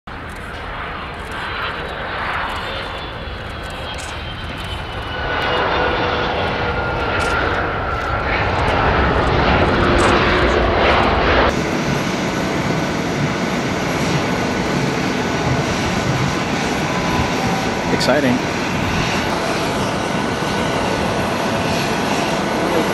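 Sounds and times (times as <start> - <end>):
jet landing and passing: 0.1 - 22.9
jet taxiing whine: 0.1 - 22.9.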